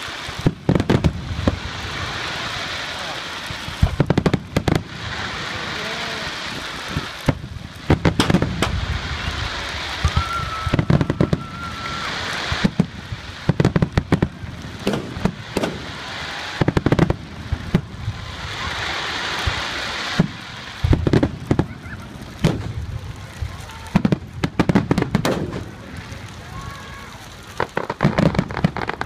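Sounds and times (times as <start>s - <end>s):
fireworks bangs and crackles: 0.0s - 29.0s
steady hiss: 0.0s - 29.0s.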